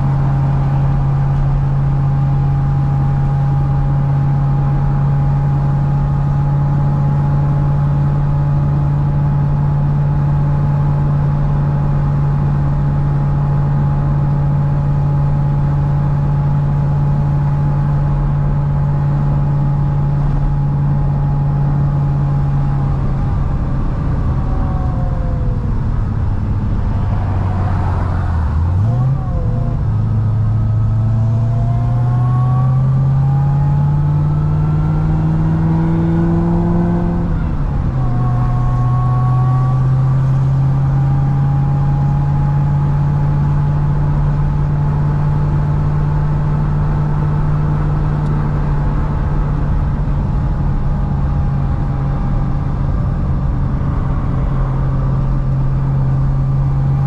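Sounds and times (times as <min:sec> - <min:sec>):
car engine running and revving: 0:00.0 - 0:57.0.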